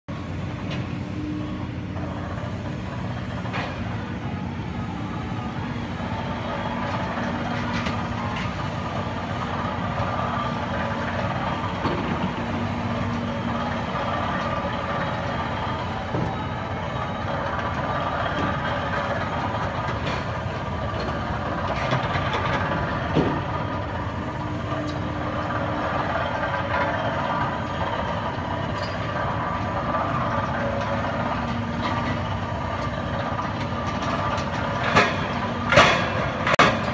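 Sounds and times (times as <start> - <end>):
heavy diesel machinery: 0.1 - 36.9.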